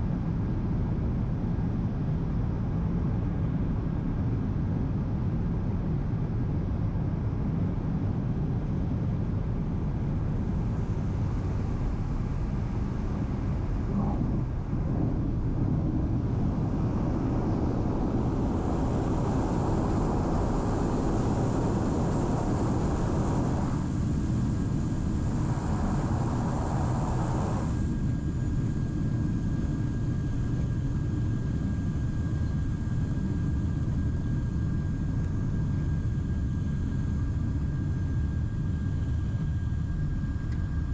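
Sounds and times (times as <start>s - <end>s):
faint steady whine: 0.0s - 40.9s
aircraft cabin drone: 4.9s - 40.9s.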